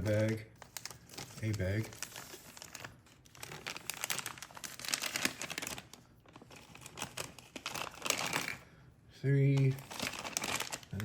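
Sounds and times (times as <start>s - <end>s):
plastic bag crinkling: 0.0s - 8.8s, 9.5s - 11.0s.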